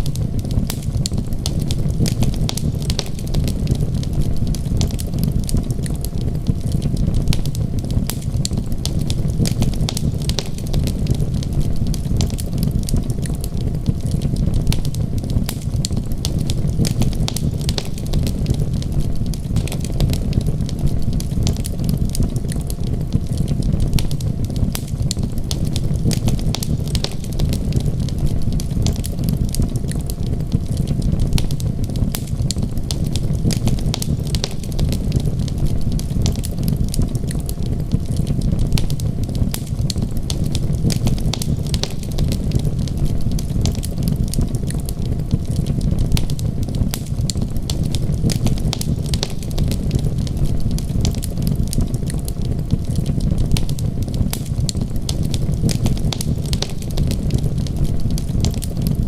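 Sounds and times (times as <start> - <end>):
low rumble: 0.0 - 59.0
wood fire crackling: 0.0 - 59.0.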